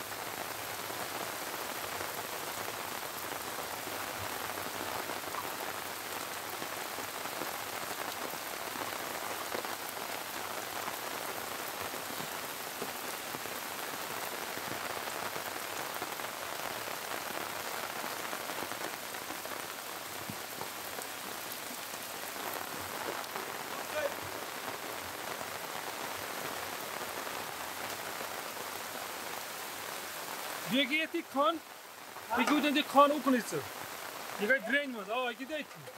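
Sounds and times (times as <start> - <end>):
floodwater running over road: 0.0 - 35.9
heavy rain: 0.0 - 35.9.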